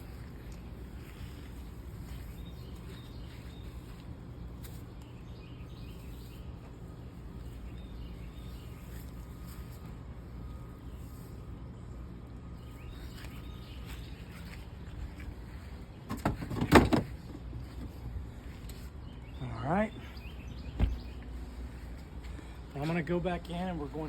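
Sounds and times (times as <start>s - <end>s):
steady low rumble: 0.0s - 16.5s, 17.1s - 24.0s.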